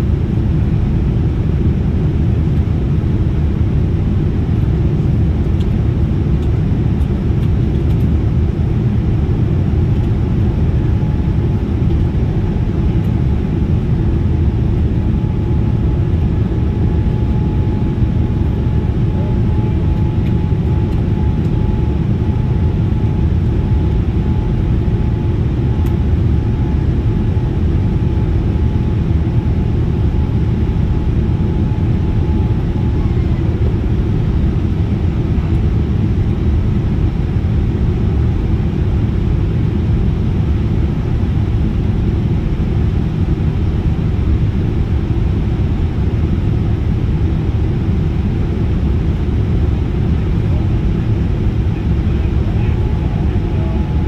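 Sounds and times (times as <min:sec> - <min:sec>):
airliner cabin engine rumble: 0:00.0 - 0:54.0
faint steady whine: 0:00.0 - 0:54.0.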